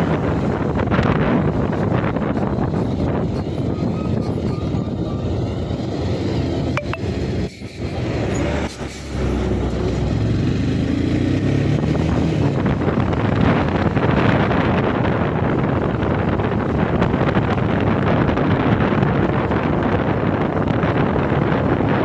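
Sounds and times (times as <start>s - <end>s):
wind buffeting microphone: 0.0s - 8.3s, 9.4s - 22.0s
heavy truck: 0.0s - 22.0s.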